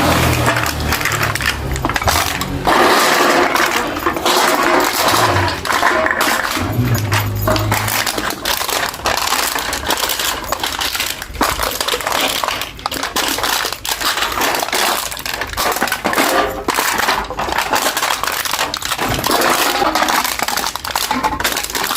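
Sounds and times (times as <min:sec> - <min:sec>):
beer can being crushed: 0:00.0 - 0:21.9.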